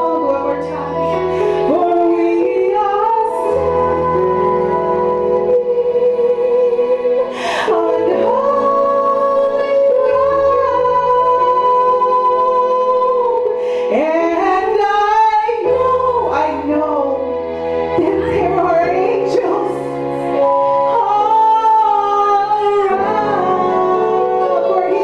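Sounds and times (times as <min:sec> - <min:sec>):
woman singing into microphone: 0:00.0 - 0:25.0.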